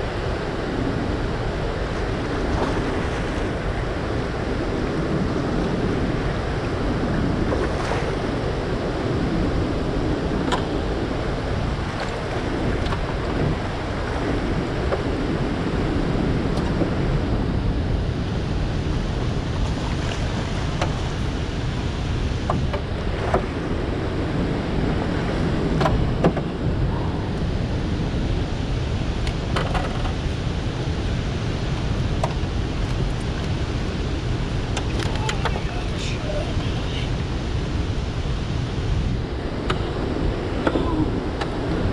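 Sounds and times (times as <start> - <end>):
turbulent water rushing: 0.0 - 41.9
wind on microphone: 0.0 - 41.9.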